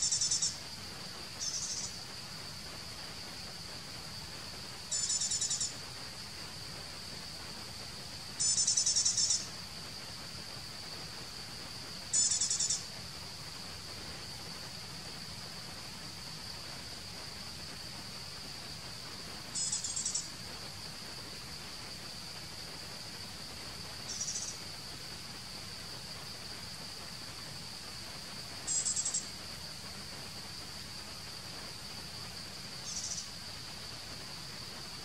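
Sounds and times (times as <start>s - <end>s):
buzzy high-pitched insect trills: 0.0s - 35.0s
insects droning: 0.0s - 35.0s.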